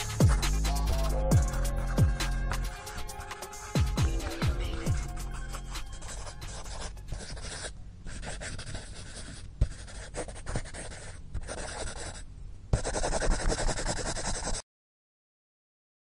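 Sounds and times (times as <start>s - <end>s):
scratchy rasping noise: 0.0s - 14.6s.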